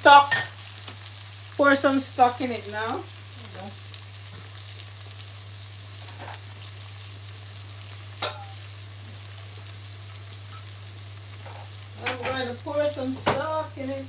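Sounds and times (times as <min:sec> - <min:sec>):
vegetables sizzling in a pot: 0:00.0 - 0:14.0.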